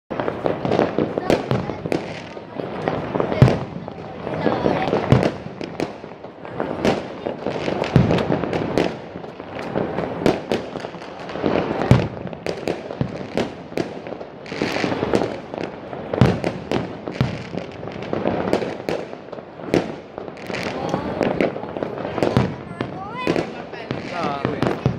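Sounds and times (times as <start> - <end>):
fireworks bangs: 0.1 - 24.9
fireworks crackling: 0.1 - 24.9.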